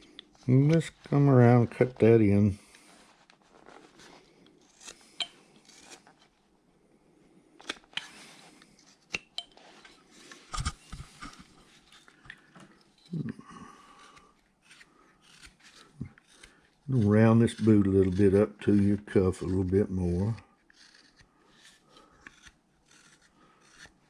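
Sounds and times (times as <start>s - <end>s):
knife scraping wood: 0.0s - 6.4s, 7.6s - 24.0s.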